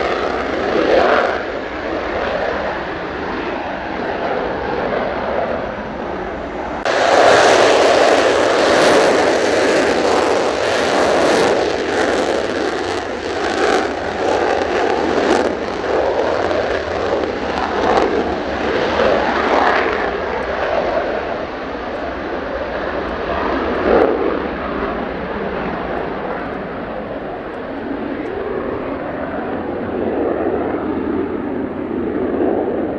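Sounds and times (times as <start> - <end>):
jet engine roaring on takeoff: 0.0 - 32.9.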